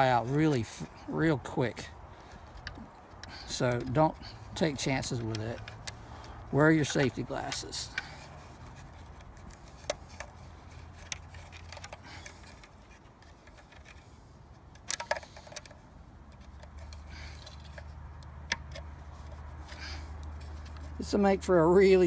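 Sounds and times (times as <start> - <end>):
wire clicking against screws: 2.0 - 14.0, 14.6 - 21.0.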